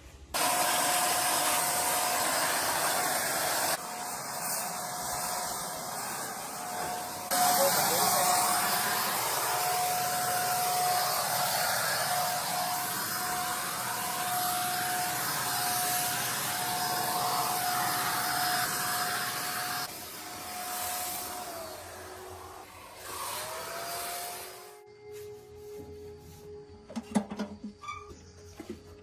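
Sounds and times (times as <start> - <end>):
blower motor whining: 0.4 - 24.8.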